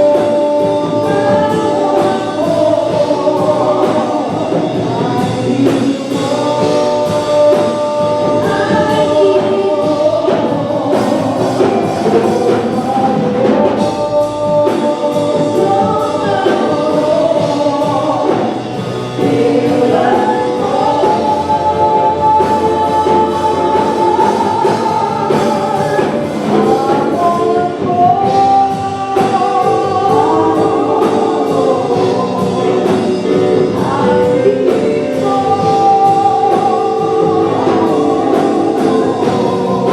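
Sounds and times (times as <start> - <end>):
band playing: 0.0 - 39.9
gospel choir singing: 0.0 - 39.9
steady drum beat: 0.0 - 39.9.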